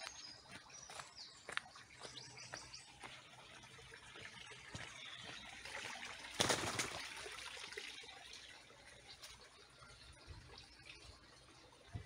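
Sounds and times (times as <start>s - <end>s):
small birds chirping: 0.0s - 7.1s, 8.0s - 12.0s
faint trickle of water: 0.0s - 12.0s.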